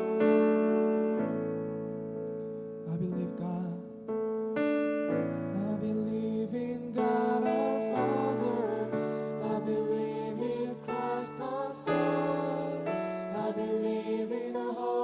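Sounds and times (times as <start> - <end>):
keyboard playing slow chords: 0.0 - 15.0.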